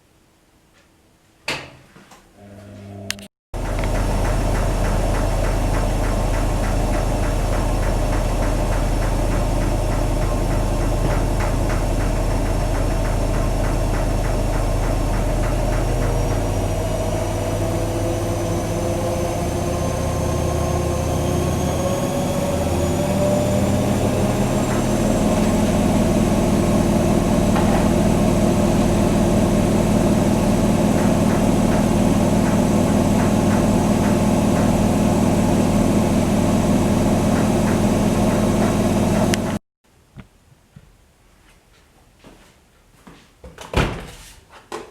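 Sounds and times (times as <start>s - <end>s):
washing machine spinning up: 2.4s - 39.6s.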